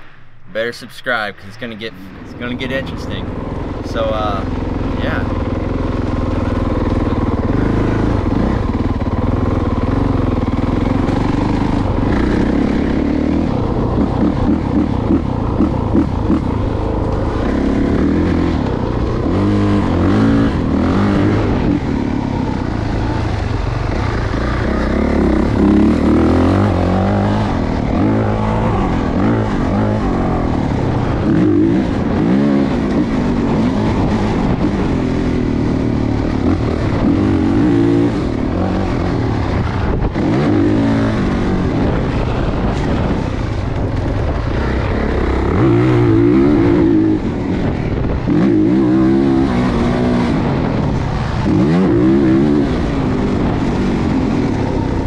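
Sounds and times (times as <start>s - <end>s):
dirt bike engine revving: 1.6s - 55.0s.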